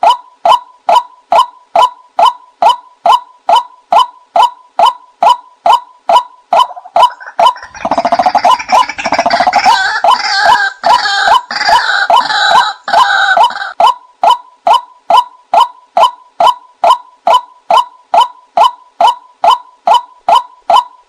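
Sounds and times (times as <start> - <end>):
rapid overlapping croaking calls: 0.0 - 21.0
waterhen kwak calls: 0.9 - 20.9.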